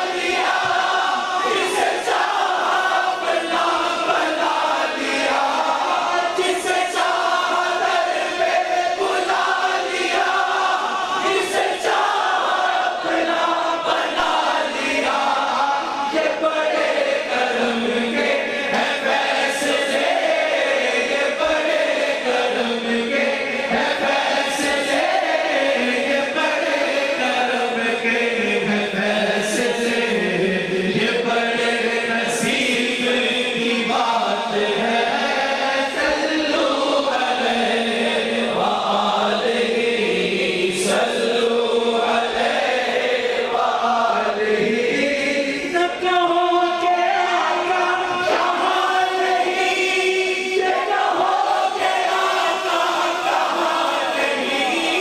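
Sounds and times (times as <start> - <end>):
crowd of men chanting: 0.0 - 55.0
lead reciter: 0.0 - 55.0.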